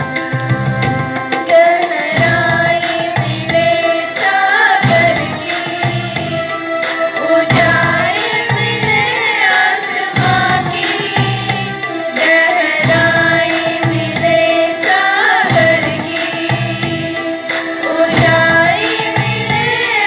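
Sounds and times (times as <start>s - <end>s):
hand-drum rhythm: 0.0s - 20.0s
held steady drone note: 0.0s - 20.0s
person singing: 0.0s - 20.0s.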